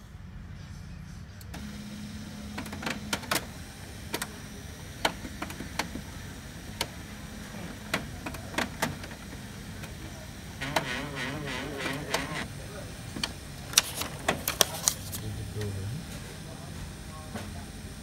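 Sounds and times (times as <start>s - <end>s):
printer motor hum: 1.4s - 18.0s.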